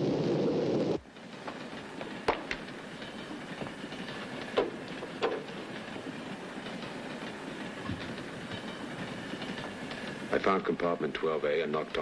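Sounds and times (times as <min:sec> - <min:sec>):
train running noise from inside: 0:00.0 - 0:12.0.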